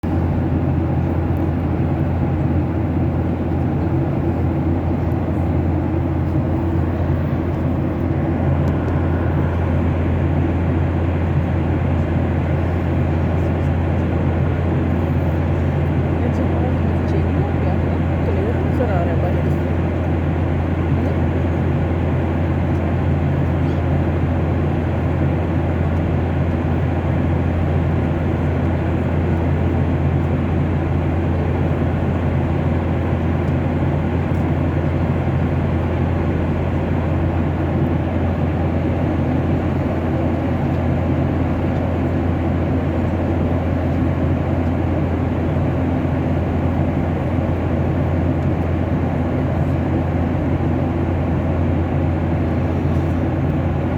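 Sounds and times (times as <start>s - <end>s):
aeroplane cabin drone: 0.0s - 53.9s.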